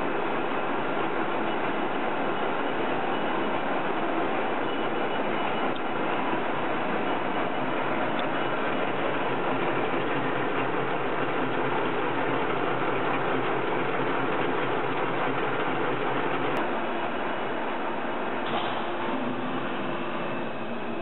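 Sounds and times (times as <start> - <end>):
milling machine whirring and rattling: 0.0 - 21.0.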